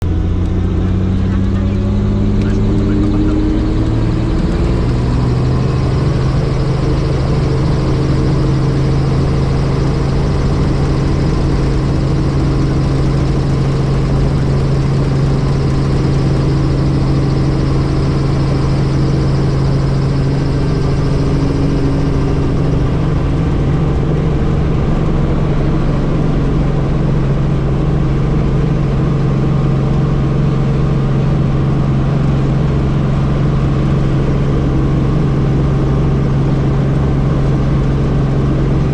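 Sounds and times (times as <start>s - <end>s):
helicopter droning: 0.0s - 38.9s.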